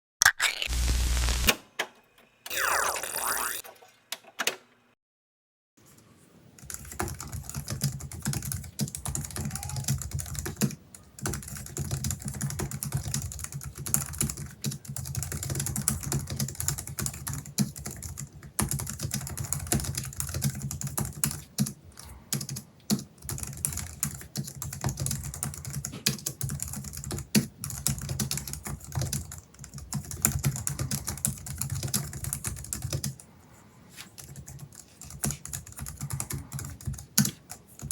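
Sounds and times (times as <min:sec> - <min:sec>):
typing on keyboard: 0:06.6 - 0:33.2, 0:34.2 - 0:37.9.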